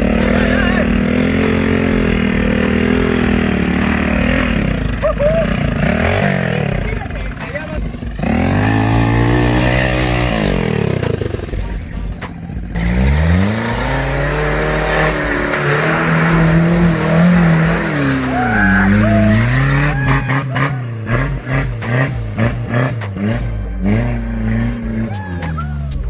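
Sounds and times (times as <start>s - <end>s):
vehicle engine revving hard: 0.0s - 25.2s.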